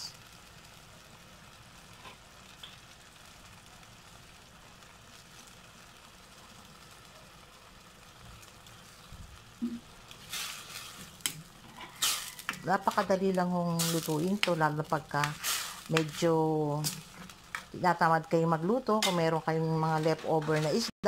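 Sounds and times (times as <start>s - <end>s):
sauce simmering in a pan: 0.1s - 20.0s.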